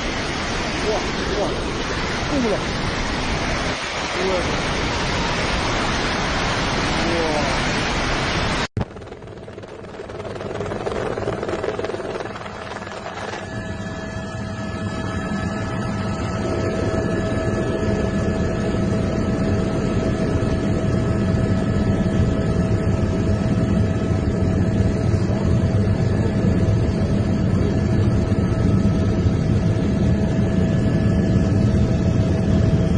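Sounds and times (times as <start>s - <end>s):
machine-like hum: 0.0s - 32.9s.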